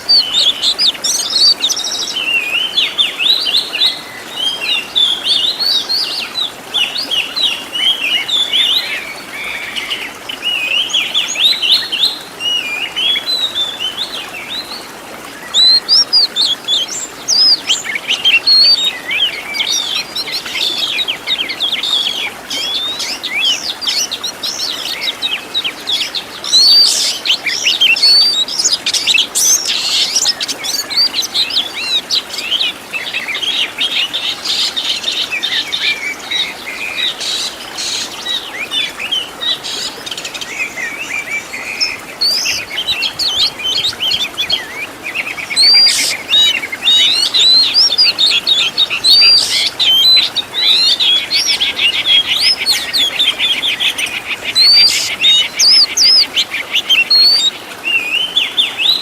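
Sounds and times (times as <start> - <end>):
bird singing whistles and trills: 0.0 - 34.0, 37.9 - 59.0.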